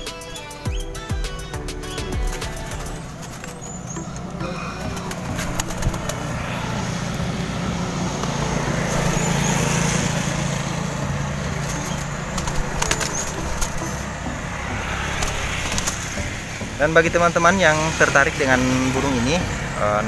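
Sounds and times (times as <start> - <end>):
pigeon wingbeats: 0.0 - 16.6
low engine hum: 0.0 - 20.0.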